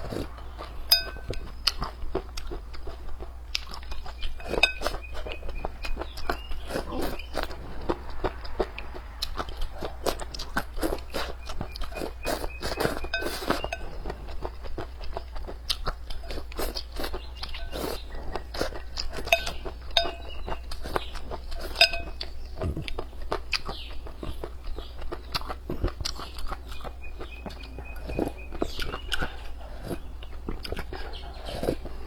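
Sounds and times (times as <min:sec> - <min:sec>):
person chewing and smacking: 0:00.0 - 0:32.0.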